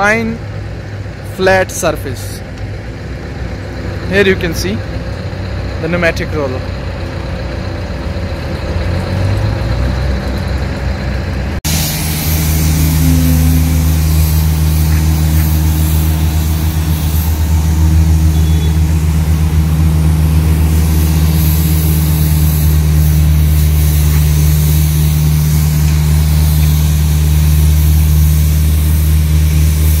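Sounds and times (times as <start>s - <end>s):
road roller engine humming: 0.0s - 30.0s.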